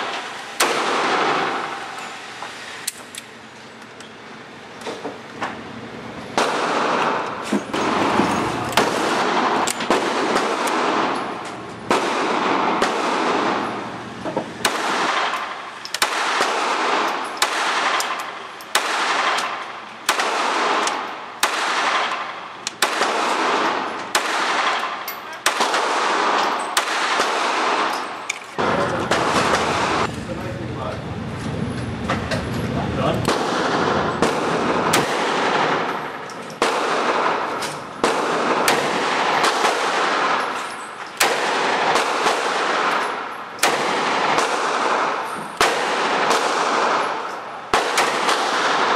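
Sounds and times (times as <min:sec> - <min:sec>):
pistol shots echoing indoors: 0:00.0 - 0:02.0, 0:06.4 - 0:30.1, 0:33.2 - 0:48.9.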